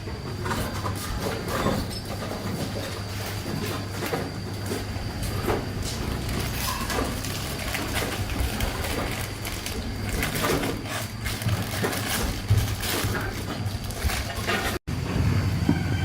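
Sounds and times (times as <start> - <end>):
metal knocks and clatter: 0.0 - 14.8.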